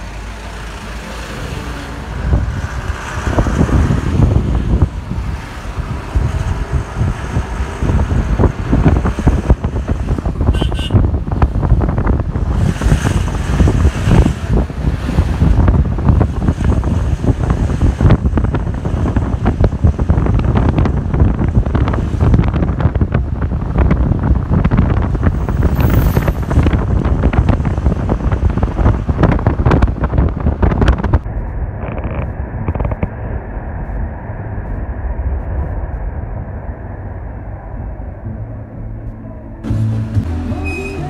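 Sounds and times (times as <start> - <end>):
vehicle driving on road: 0.0 - 41.0
wind buffeting microphone: 2.0 - 38.6.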